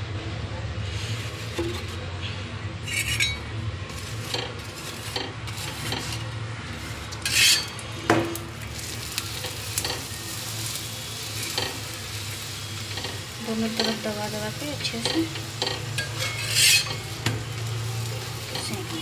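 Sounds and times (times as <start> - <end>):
flatbread sizzling in oil: 0.8 - 2.1, 2.8 - 19.0
metal spatula scraping pan: 0.8 - 19.0.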